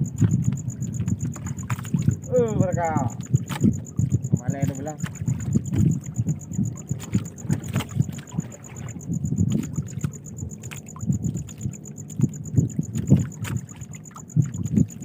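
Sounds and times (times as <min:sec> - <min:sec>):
water sloshing against boat hull: 0:00.0 - 0:15.0.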